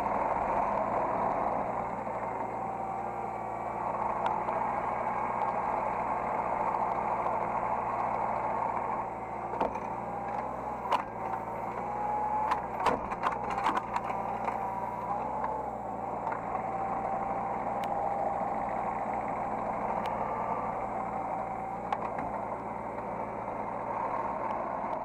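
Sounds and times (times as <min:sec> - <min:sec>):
excavator engine humming: 0:00.0 - 0:25.0.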